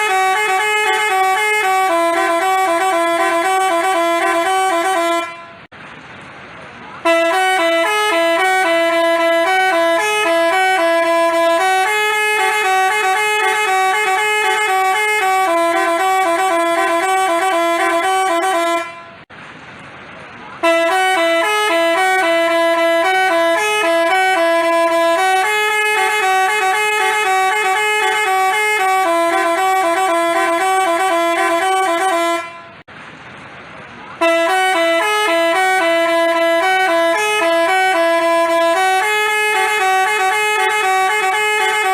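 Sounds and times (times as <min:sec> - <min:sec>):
multi-tone bus horn melody: 0:00.0 - 0:05.8, 0:07.0 - 0:19.3, 0:20.5 - 0:32.9, 0:34.2 - 0:41.9.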